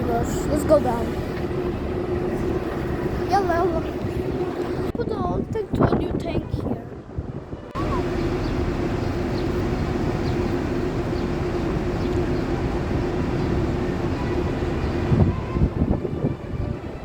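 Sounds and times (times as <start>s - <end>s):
heavy vehicle engine running: 0.0s - 5.9s, 7.0s - 17.0s.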